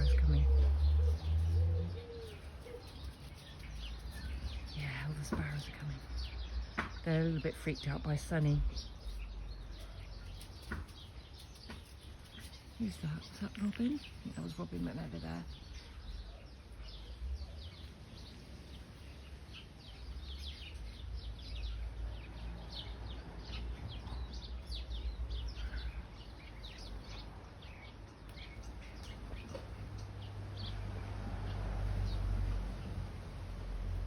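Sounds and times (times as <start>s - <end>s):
sparrows chirping: 0.0s - 34.0s.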